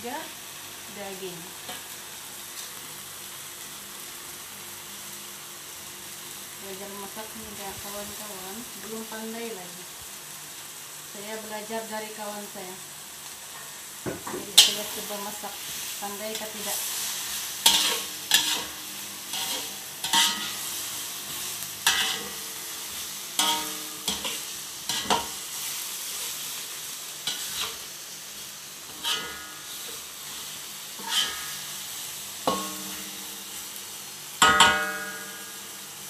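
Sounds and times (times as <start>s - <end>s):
meat paste sizzling in pan: 0.0s - 36.0s.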